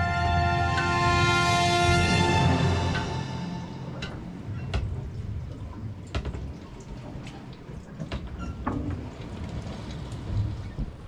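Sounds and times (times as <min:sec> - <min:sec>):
low rumble of wind and water: 0:00.0 - 0:11.0.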